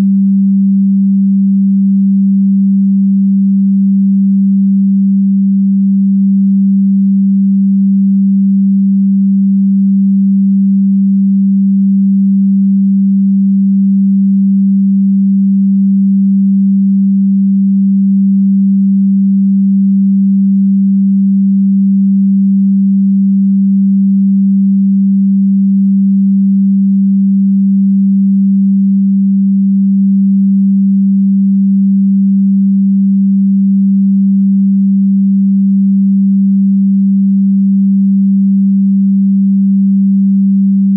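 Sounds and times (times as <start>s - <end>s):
low electronic sine tone: 0.0s - 40.9s.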